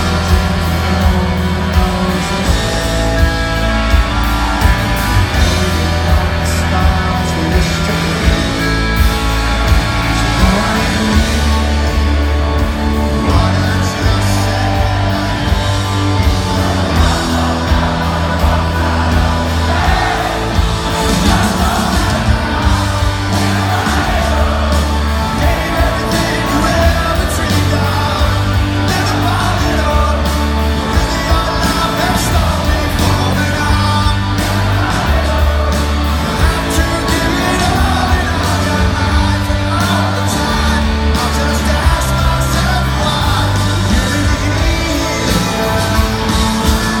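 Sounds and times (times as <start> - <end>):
live rock band playing: 0.0 - 47.0
person singing lead vocal: 0.0 - 47.0.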